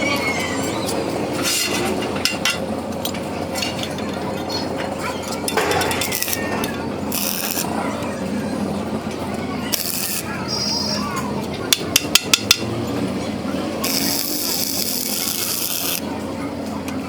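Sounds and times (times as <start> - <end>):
workshop machine noise: 0.0 - 17.0.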